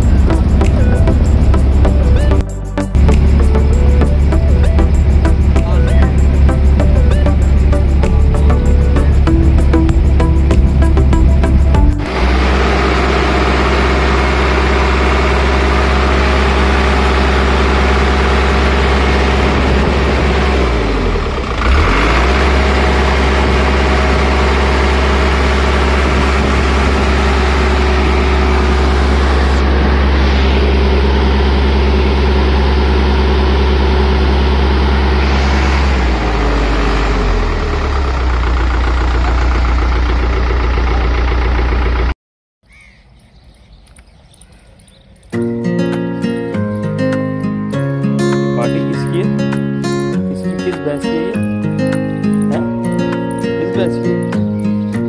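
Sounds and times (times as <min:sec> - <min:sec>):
truck engine idling: 0:00.0 - 0:42.2, 0:45.4 - 0:55.0.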